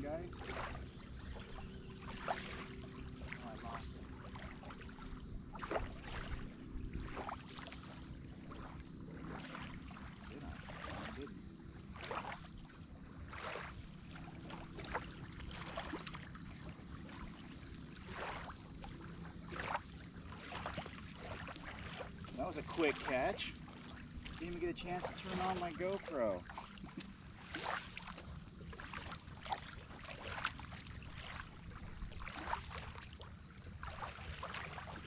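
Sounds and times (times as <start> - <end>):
faint low hum: 0.0 - 35.0
small waves lapping: 0.0 - 35.0.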